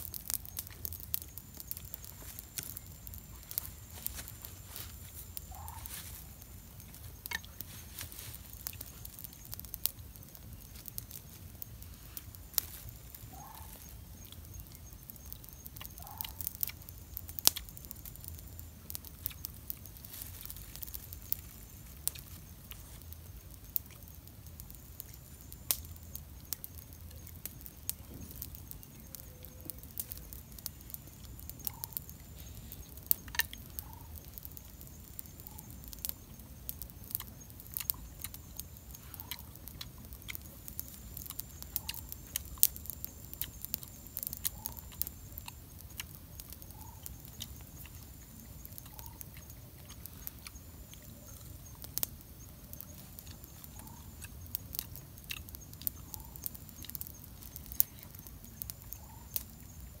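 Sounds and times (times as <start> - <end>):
campfire crackling and popping: 0.0 - 60.0.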